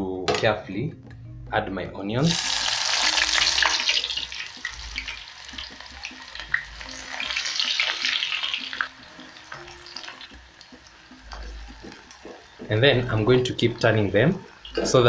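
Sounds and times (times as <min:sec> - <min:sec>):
onion rings sizzling in hot oil: 0:02.3 - 0:15.0.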